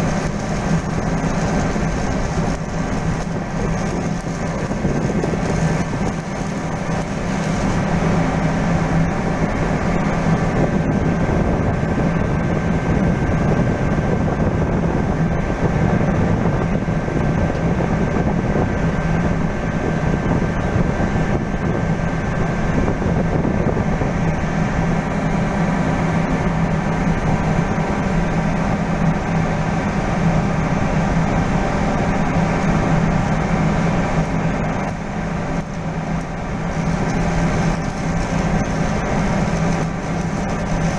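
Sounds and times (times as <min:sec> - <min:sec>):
heavy machinery humming: 0:00.0 - 0:40.9.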